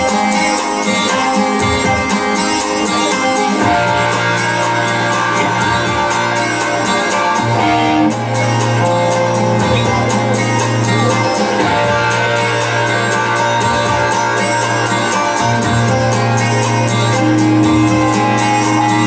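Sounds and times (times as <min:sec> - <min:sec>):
hard rock band playing: 0:00.0 - 0:19.0.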